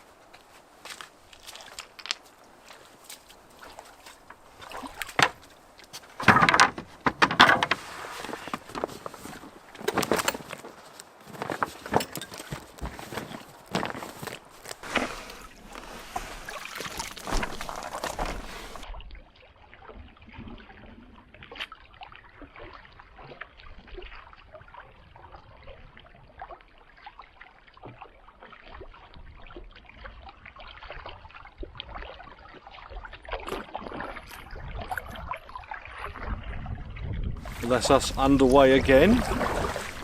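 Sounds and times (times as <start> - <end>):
paddle splashing water: 0.0 - 40.0.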